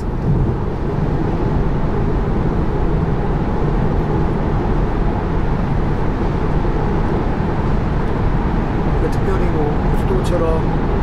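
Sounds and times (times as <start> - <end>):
road and tyre noise in car cabin: 0.0 - 11.0.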